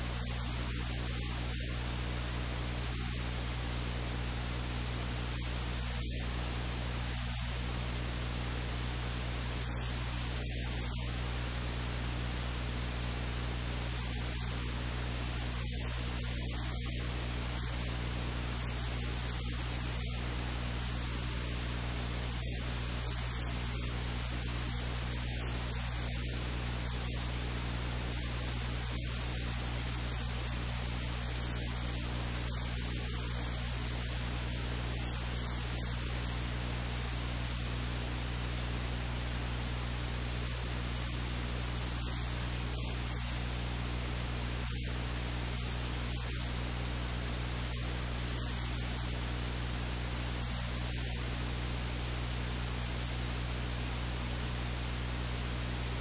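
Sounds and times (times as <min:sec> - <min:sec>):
low electrical hum: 0:00.0 - 0:56.0
static hiss: 0:00.0 - 0:56.0.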